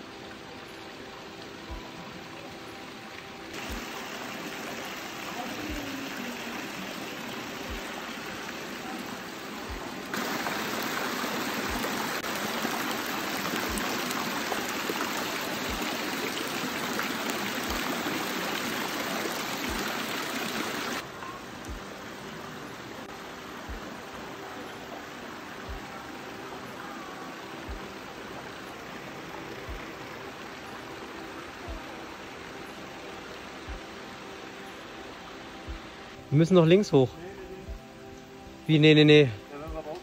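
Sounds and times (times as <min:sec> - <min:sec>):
running water rushing: 0:00.0 - 0:40.0.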